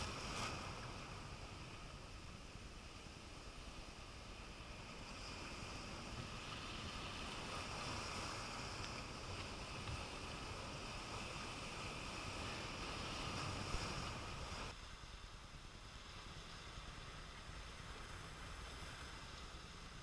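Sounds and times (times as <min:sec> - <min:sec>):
surf washing over rocks: 0:00.0 - 0:20.0.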